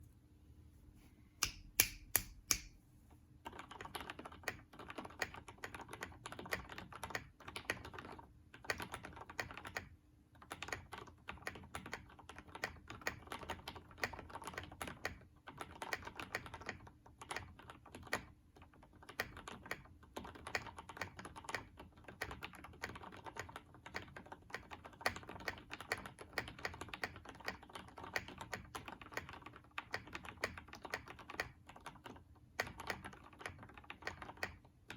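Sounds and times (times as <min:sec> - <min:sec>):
fast mechanical keyboard typing: 0:03.4 - 0:34.9
sharp keyboard clicks: 0:03.4 - 0:34.9.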